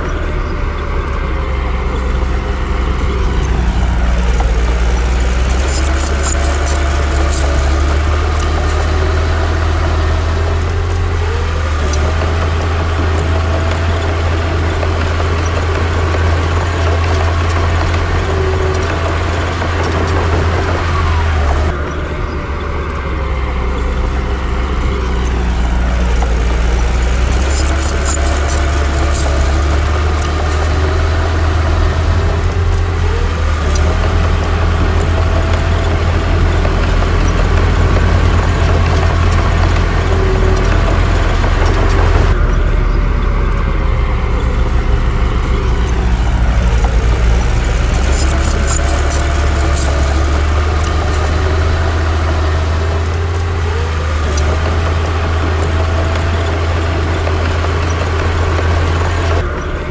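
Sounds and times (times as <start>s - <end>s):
bulldozer diesel engine under load: 0.0s - 59.9s
metallic clanks: 1.0s - 59.5s.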